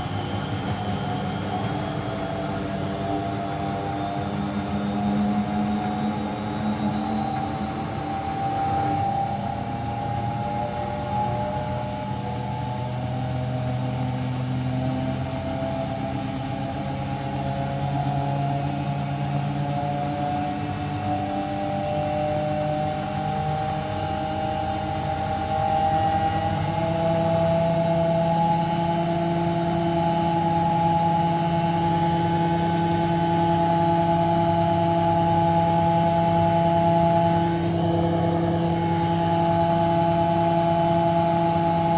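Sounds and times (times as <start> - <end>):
high whine rising in pitch: 0.0 - 41.9
washing machine motor hum: 0.0 - 41.9.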